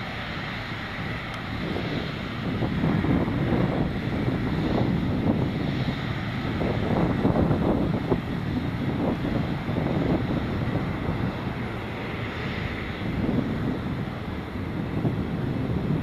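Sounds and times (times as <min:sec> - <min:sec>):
jet engine and airflow rush: 0:00.0 - 0:16.0.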